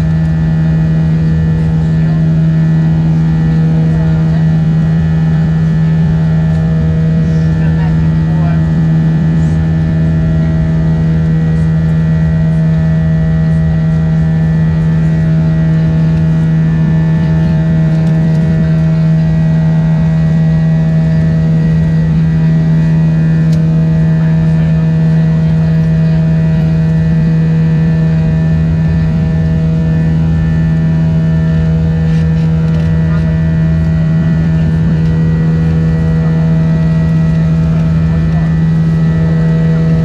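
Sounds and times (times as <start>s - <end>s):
jet engine drone in cabin: 0.0s - 40.0s.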